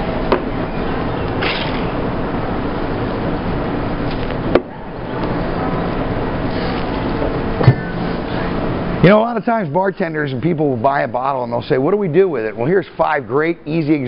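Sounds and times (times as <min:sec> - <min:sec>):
bar room background noise: 0:00.0 - 0:14.0.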